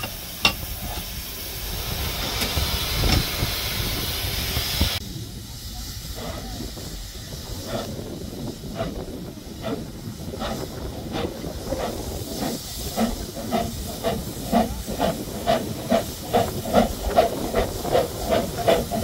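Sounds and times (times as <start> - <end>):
distant steam locomotive hiss: 0.0 - 19.0
steam hissing: 0.0 - 19.0.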